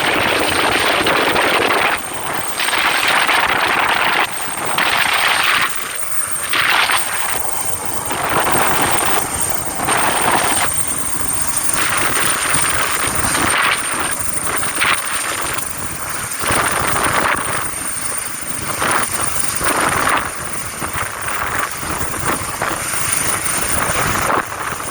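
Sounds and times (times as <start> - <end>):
helicopter hovering: 0.0 - 24.9.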